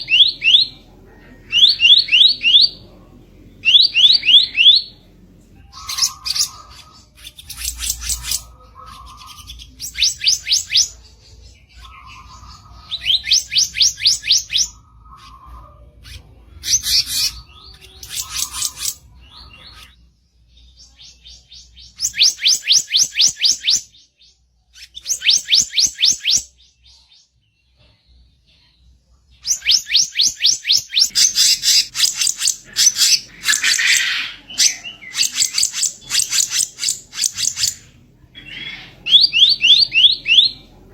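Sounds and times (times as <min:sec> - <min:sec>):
songbird harsh chattering song: 0:00.0 - 0:27.4, 0:29.4 - 0:40.8.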